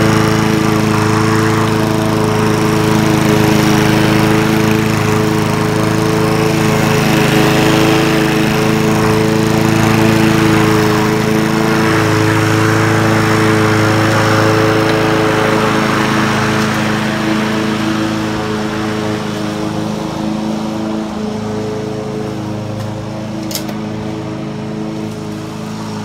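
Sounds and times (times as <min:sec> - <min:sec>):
lawnmower engine cutting grass: 0:00.0 - 0:26.0.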